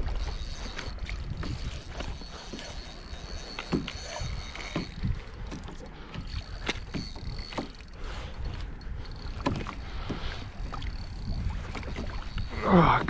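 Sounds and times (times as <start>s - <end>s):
fishing gear clicks and knocks: 0.0s - 13.0s.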